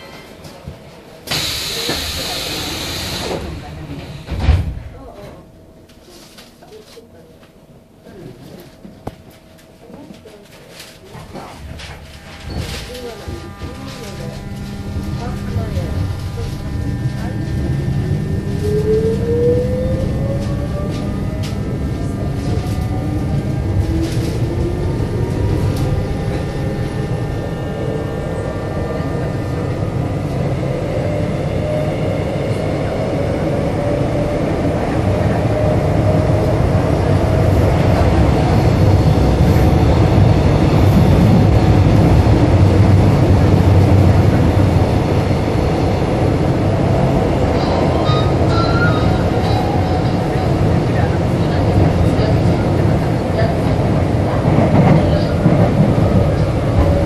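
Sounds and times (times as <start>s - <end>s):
subway traction motor whine: 0.0s - 57.0s
wheels rumbling on track: 9.6s - 57.0s.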